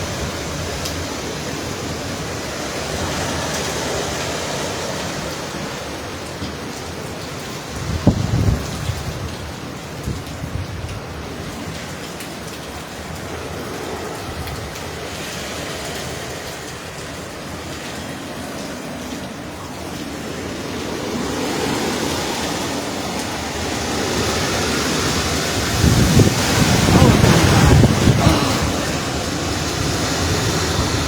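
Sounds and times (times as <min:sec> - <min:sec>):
heavy rain: 0:00.0 - 0:31.0
hurricane wind: 0:00.0 - 0:31.0.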